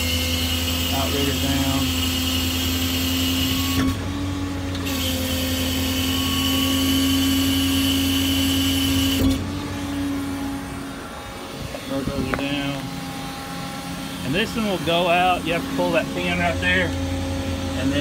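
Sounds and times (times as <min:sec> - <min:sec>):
hydraulic hum and whine: 0:00.0 - 0:18.0.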